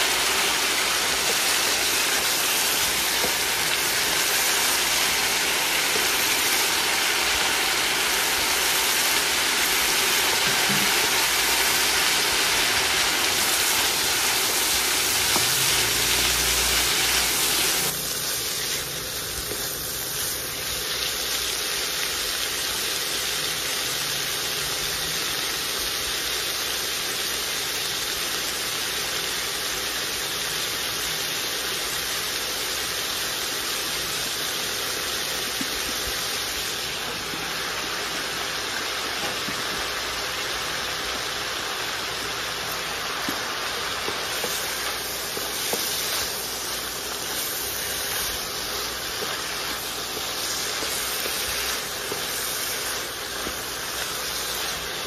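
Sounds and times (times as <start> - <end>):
vegetables sizzling in a wok: 0.0 - 55.0.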